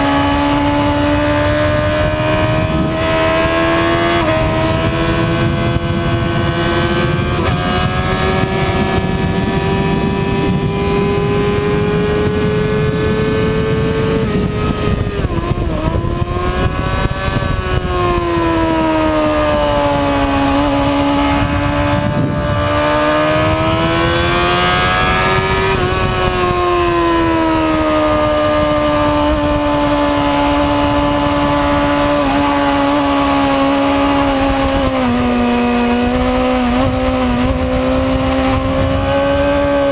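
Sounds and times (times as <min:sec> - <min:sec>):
motorcycle engine at high revs: 0:00.0 - 0:39.9
wind rush on microphone: 0:00.0 - 0:39.9.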